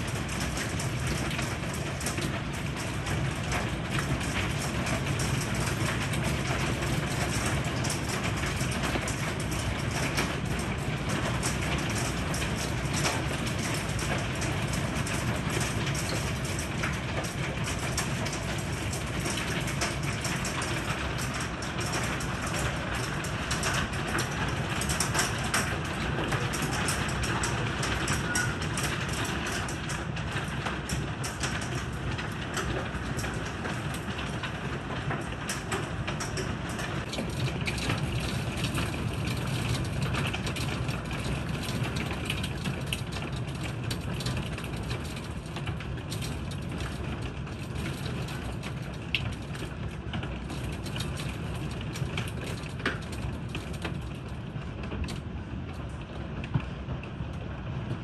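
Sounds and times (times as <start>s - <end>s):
hailstones clicking on wood: 0.0s - 58.0s.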